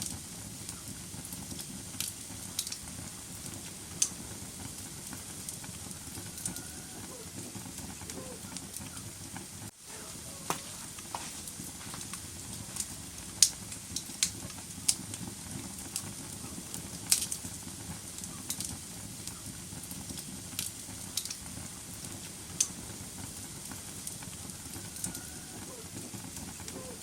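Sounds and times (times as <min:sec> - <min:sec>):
fire flames rumbling and hissing: 0:00.0 - 0:27.0
logs crackling and popping: 0:00.0 - 0:27.0.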